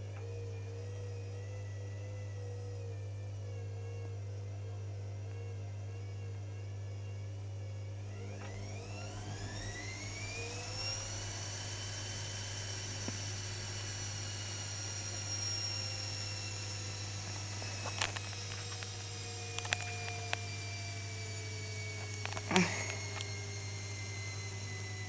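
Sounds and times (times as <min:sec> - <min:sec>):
washing machine motor whine: 0:00.0 - 0:25.0.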